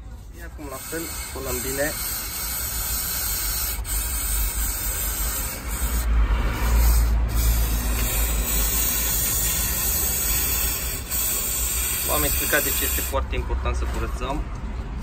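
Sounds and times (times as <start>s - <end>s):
aerosol spray hissing: 0.6s - 13.2s.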